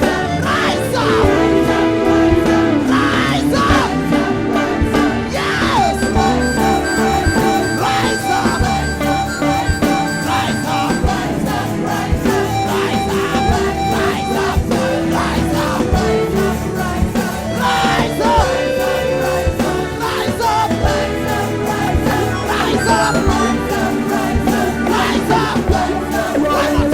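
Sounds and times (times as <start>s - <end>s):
people singing: 0.0s - 26.9s
worship band playing: 0.0s - 26.9s.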